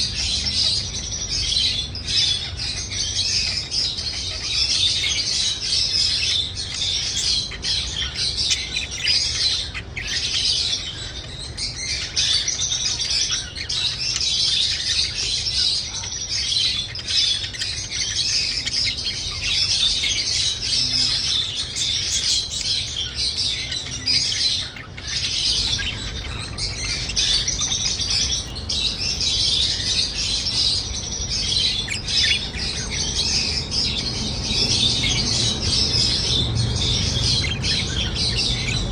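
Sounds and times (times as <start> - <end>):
pet birds chirping: 0.0 - 38.9
steady low hum: 0.0 - 38.9.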